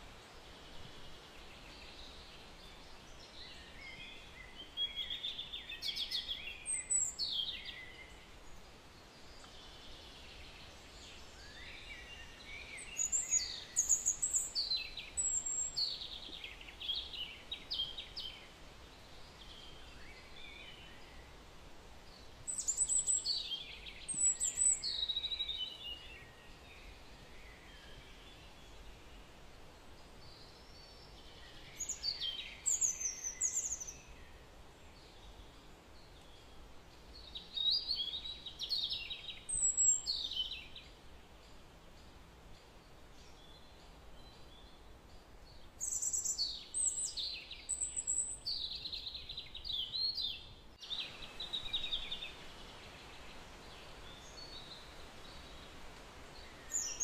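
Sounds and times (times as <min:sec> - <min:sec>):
steady hiss: 0:00.0 - 0:49.8, 0:50.5 - 0:57.0
bird chirping: 0:01.4 - 0:08.6, 0:09.2 - 0:18.6, 0:22.2 - 0:28.9, 0:30.0 - 0:57.0.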